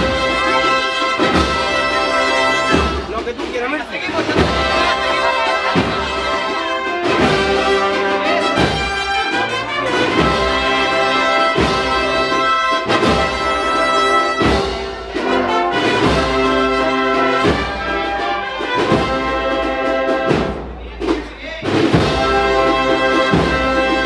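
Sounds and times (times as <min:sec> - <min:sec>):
brass melody: 0:00.0 - 0:24.0
drum and cymbal beat: 0:00.0 - 0:24.0.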